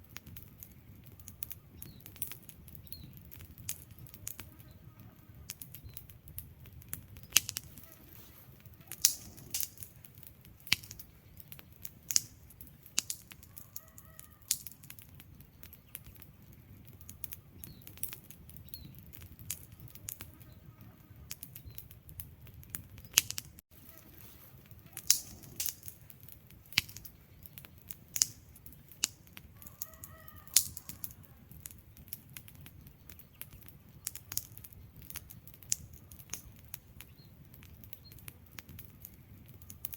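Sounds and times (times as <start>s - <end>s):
burning logs crackling: 0.0s - 39.9s
low rumble of flames: 0.0s - 39.9s.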